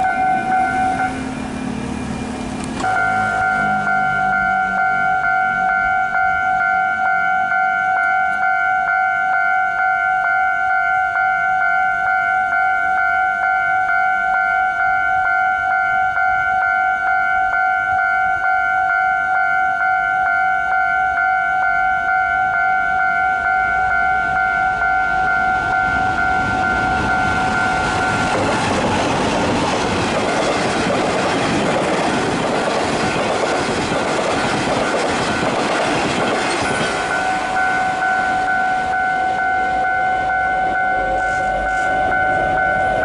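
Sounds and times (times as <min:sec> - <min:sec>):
level crossing warning bell: 0:00.0 - 0:01.8, 0:02.8 - 0:29.0, 0:31.2 - 0:43.0.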